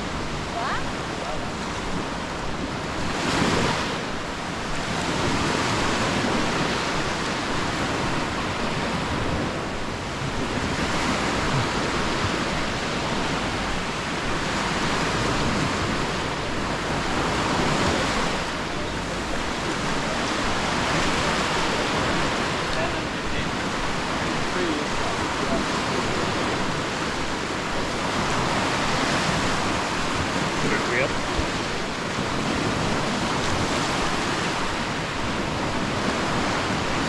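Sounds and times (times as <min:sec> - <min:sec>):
sea waves washing onto beach: 0:00.0 - 0:37.0.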